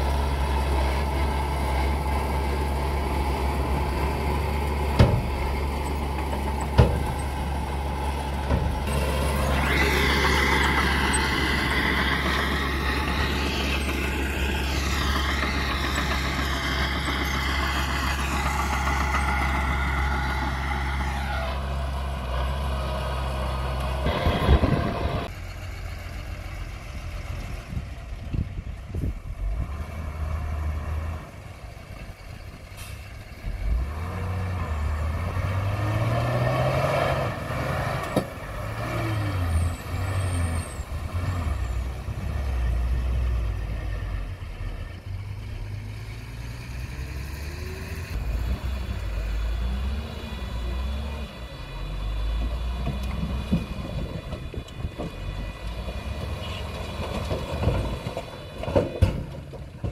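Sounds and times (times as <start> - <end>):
diesel truck engines revving: 0.0 - 59.9.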